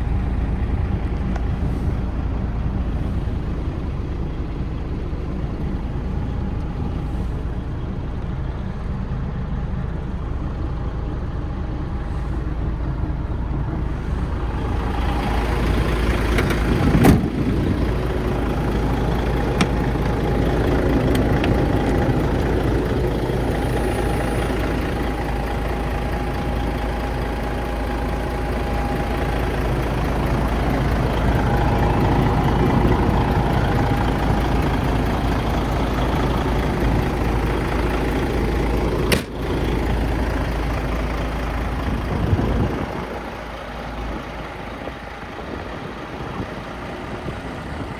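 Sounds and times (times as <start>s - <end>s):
diesel truck engine idling: 0.0s - 47.9s.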